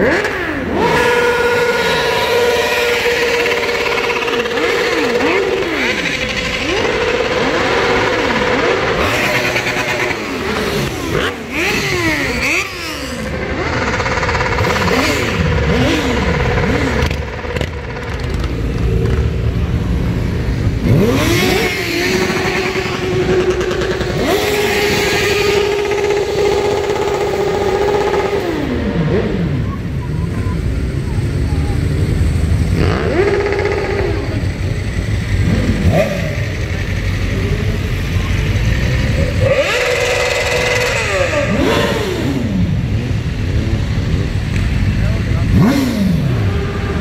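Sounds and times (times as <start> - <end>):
motorcycles riding past: 0.0 - 47.0.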